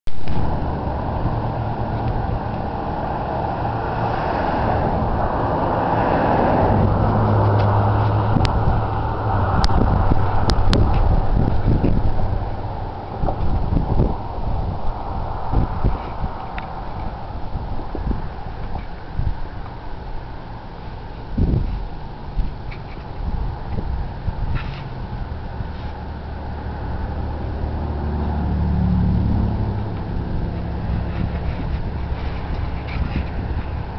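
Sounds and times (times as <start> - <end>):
highway traffic passing: 0.1 - 33.9
low engine hum: 0.1 - 33.9
wind on the microphone: 0.1 - 33.9.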